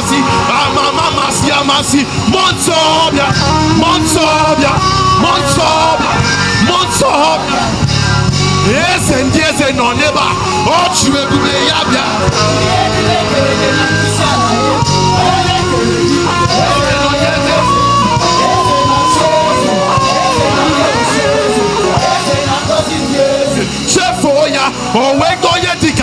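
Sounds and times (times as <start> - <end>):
voices singing together: 0.0 - 25.7
gospel band playing: 0.0 - 26.0.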